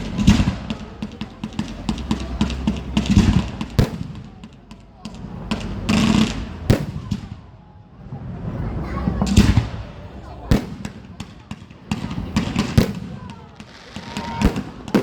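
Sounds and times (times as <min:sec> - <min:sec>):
fireworks booming and banging: 0:00.0 - 0:15.0
fireworks crackling: 0:00.0 - 0:15.0.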